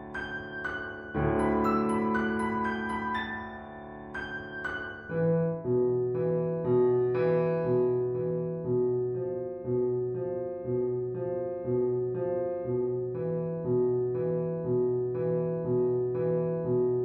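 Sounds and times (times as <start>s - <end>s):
slow piano-like keyboard music: 0.0s - 17.0s.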